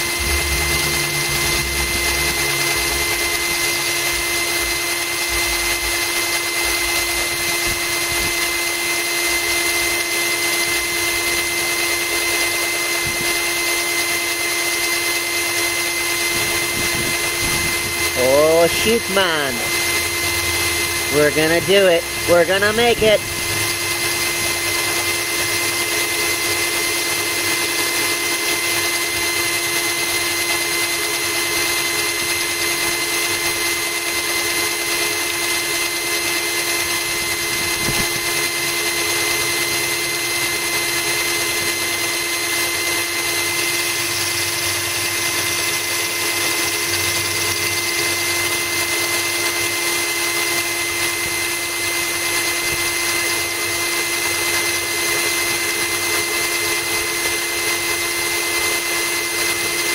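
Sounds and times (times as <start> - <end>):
cordless drill whining: 0.0 - 59.9.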